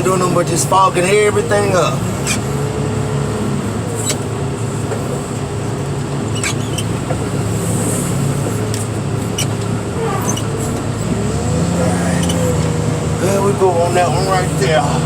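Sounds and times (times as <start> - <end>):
constant whine: 0.0 - 15.0
diesel engine running: 0.0 - 15.0.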